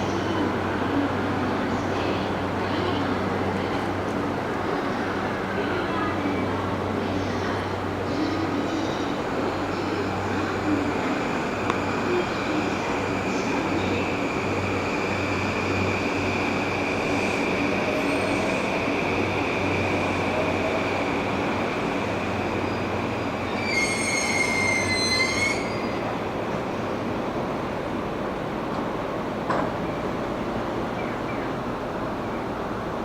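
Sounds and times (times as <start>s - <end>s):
electric train rumbling: 0.0s - 33.0s.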